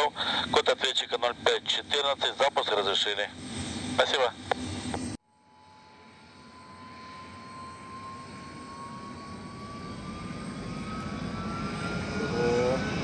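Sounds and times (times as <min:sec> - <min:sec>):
jet engine starting up whine: 0:00.0 - 0:13.0.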